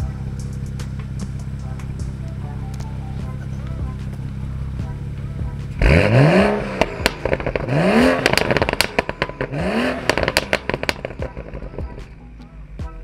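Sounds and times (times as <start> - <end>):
exhaust pops and crackles: 0.0 - 12.2
car engine revving: 0.0 - 13.0.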